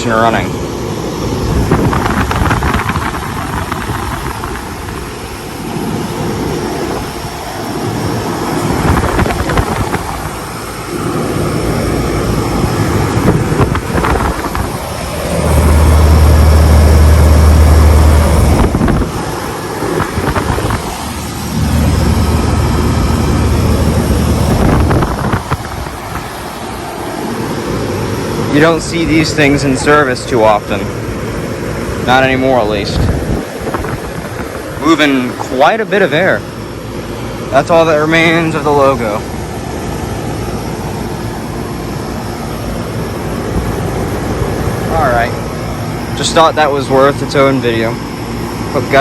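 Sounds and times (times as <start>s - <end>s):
air conditioner fan whirring: 0.0s - 49.0s
heavy low rumble: 0.0s - 49.0s.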